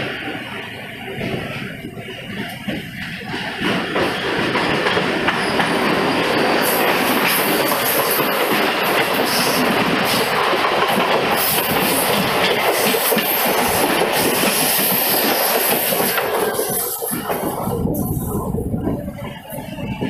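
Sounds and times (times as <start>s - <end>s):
train wheel and air rush: 0.0s - 20.0s
wheels clattering over rail joints: 1.1s - 19.1s.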